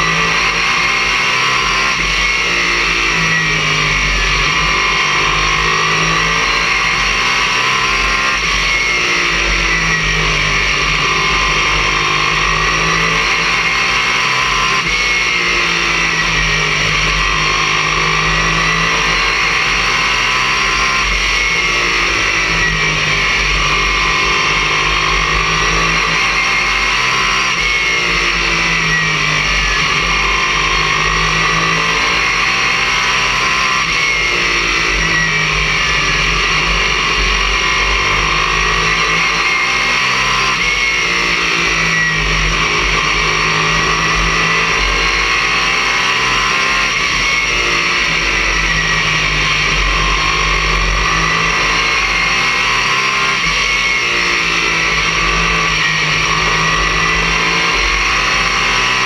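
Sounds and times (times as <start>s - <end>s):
distorted race car engine drone: 0.0s - 59.0s.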